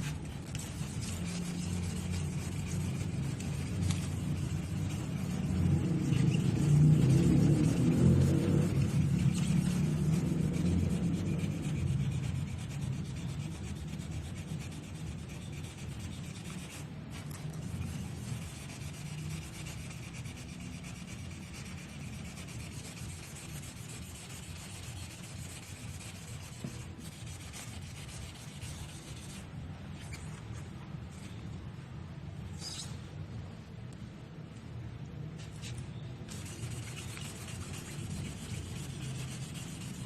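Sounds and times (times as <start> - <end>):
sandpaper rubbing: 0.0 - 31.4, 35.4 - 40.0.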